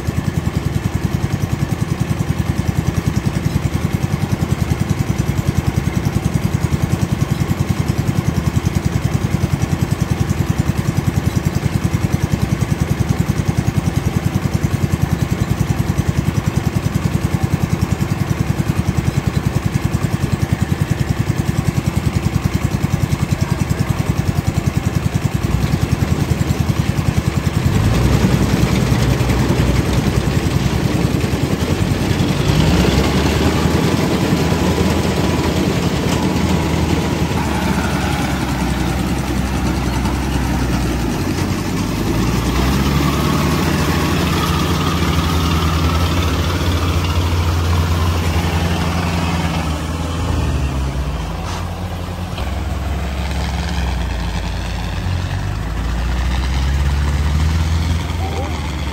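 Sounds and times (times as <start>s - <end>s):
diesel engine pulsing: 0.0s - 58.9s.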